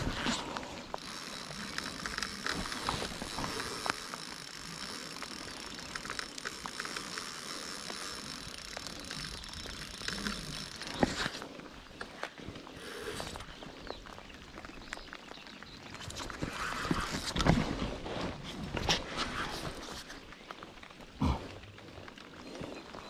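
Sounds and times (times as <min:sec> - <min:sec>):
rain falling on river: 0:00.0 - 0:17.3, 0:20.0 - 0:23.0.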